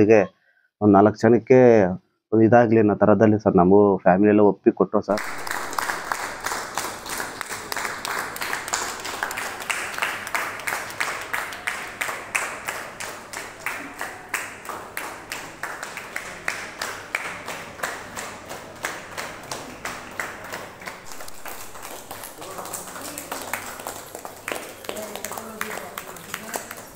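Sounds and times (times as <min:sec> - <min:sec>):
group clapping in rhythm: 0:05.1 - 0:26.9.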